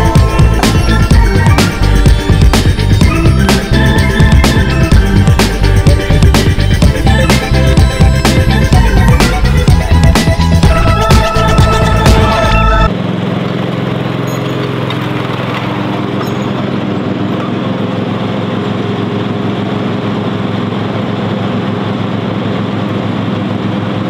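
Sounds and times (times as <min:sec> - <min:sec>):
mower engine running: 0:00.0 - 0:24.0.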